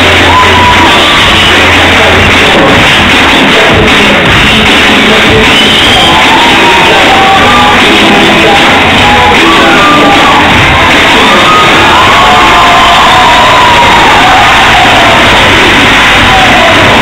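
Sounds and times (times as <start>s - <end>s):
loud music: 0.0s - 17.0s
people shouting and singing: 0.0s - 17.0s.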